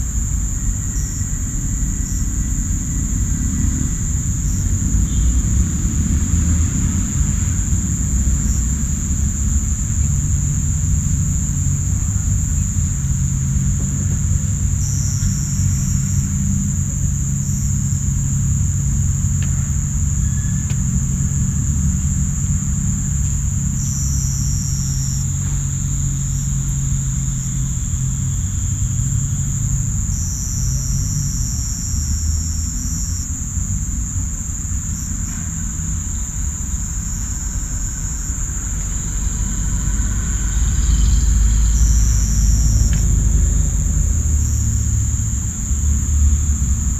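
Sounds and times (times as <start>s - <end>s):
low rumble: 0.0s - 30.0s, 33.4s - 46.9s
crickets and cicadas droning: 0.0s - 46.9s
insects chirping in short bouts: 0.0s - 46.9s.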